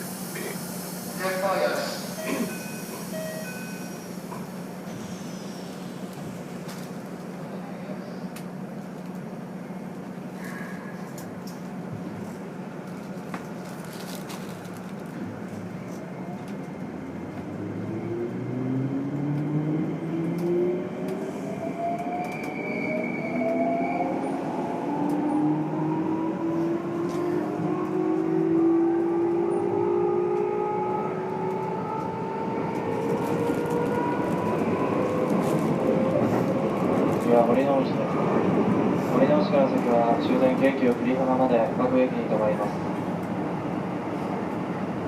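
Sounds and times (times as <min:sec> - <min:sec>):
train running noise: 0:00.0 - 0:45.0.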